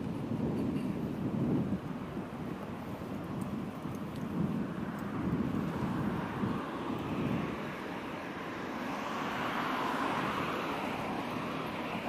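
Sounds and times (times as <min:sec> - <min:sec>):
road traffic: 0:00.0 - 0:12.0
wind noise on microphone: 0:00.0 - 0:12.0.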